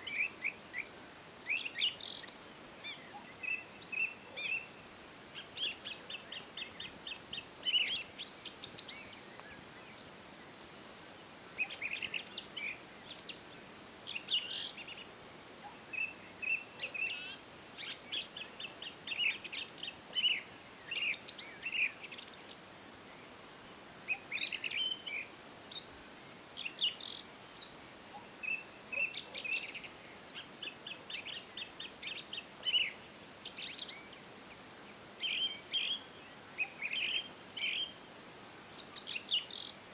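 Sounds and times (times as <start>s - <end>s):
small birds chirping: 0.0s - 23.4s, 24.0s - 39.9s
faint steady hiss: 0.0s - 39.9s.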